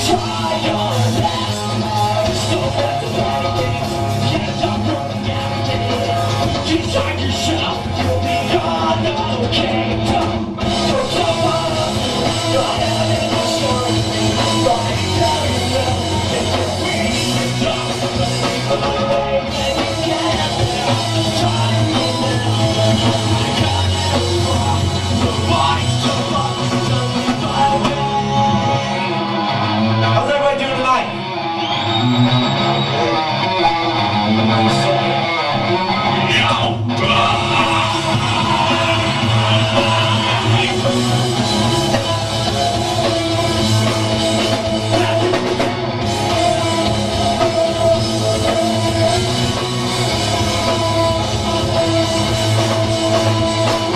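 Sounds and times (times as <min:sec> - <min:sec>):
person singing: 0:00.0 - 0:30.2, 0:33.0 - 0:53.9
drum kit: 0:00.0 - 0:53.9
guitars: 0:00.0 - 0:53.9
rock band playing live: 0:00.0 - 0:53.9.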